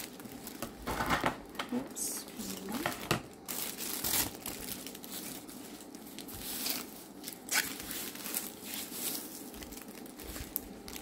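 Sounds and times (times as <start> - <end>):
plastic and paper wrapping rustling: 0.0 - 11.0.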